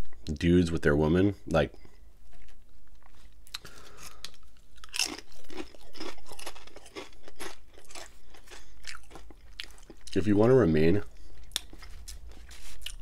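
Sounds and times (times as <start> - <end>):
crunchy chewing of chips: 1.7 - 13.0.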